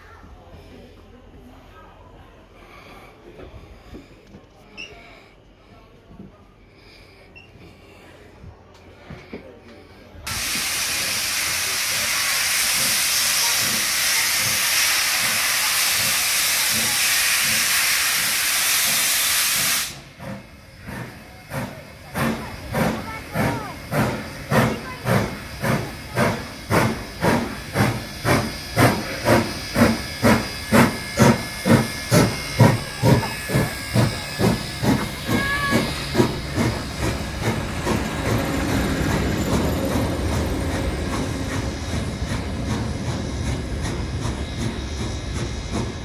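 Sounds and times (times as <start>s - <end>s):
steam locomotive exhaust chuffs: 2.5s - 46.0s
hissing steam: 6.6s - 46.0s.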